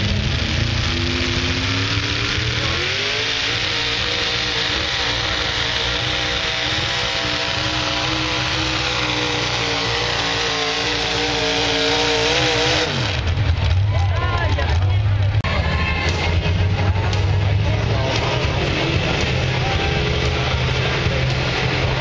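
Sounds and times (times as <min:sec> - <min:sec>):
truck engine at high revs: 0:00.0 - 0:22.0.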